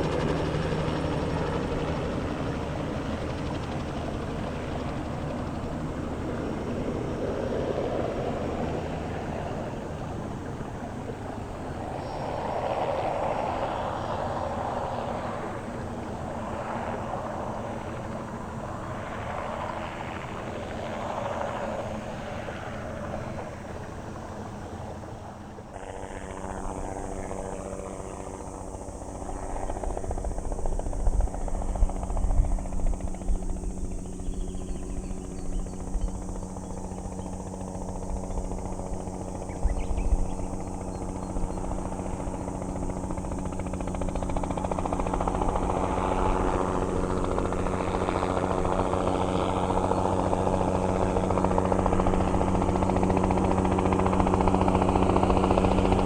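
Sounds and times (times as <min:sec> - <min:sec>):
helicopter flying: 0:00.0 - 0:56.0
steady engine whine: 0:00.0 - 0:56.0.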